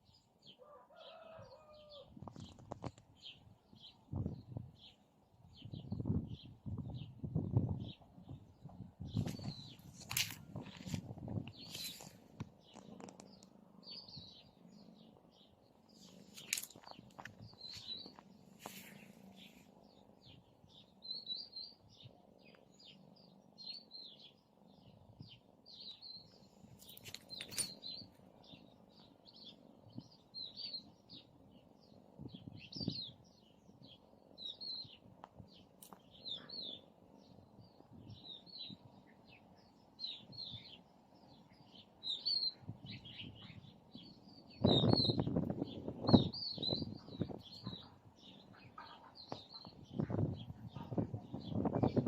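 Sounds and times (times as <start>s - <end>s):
small bird chirping: 5.6s - 52.0s.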